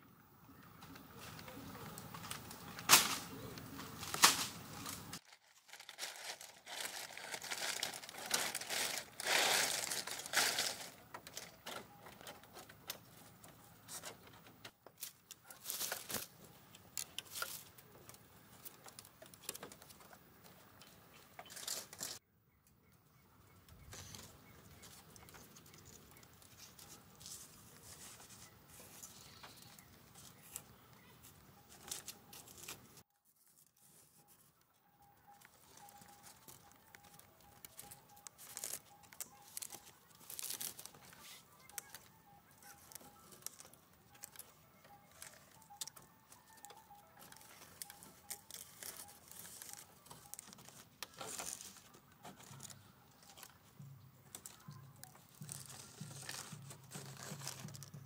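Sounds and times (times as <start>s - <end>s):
faint rustling and crackling: 0.5s - 22.2s, 23.6s - 58.0s.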